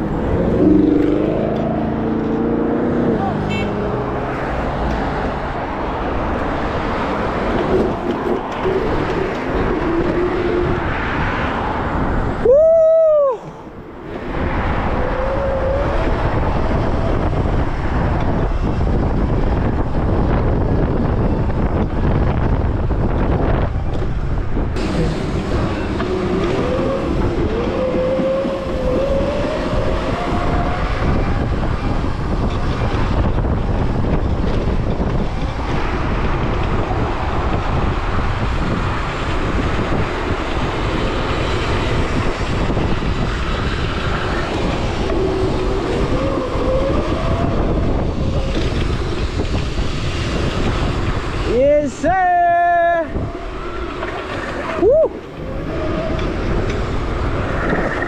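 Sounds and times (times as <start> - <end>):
road rumble: 0.0 - 58.0
wind rushing on microphone: 0.0 - 58.0.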